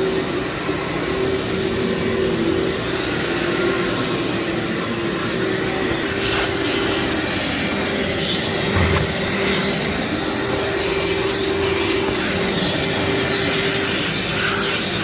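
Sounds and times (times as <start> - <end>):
vacuum cleaner motor humming: 0.0 - 15.0.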